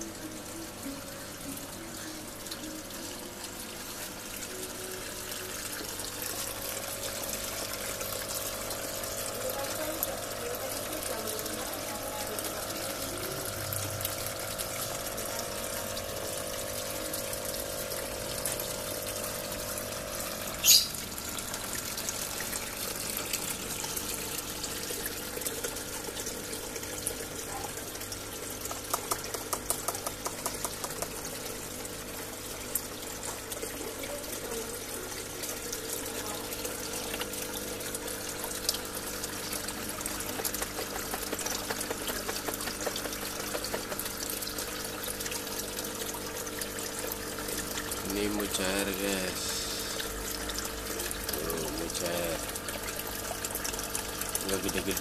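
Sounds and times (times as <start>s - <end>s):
water pump humming: 0.0s - 55.0s
water splashing into pond: 3.8s - 55.0s.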